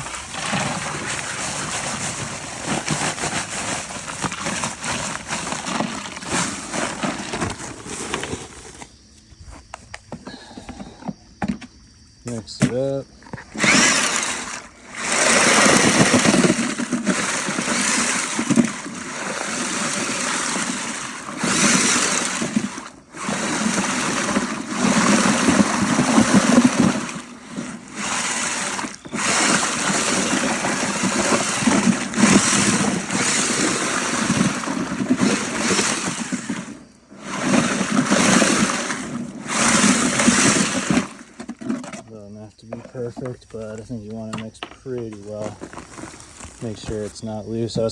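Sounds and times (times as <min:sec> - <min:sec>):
power drill mixing cement: 0:00.0 - 0:08.9, 0:10.1 - 0:11.6, 0:12.3 - 0:44.3, 0:45.0 - 0:47.9.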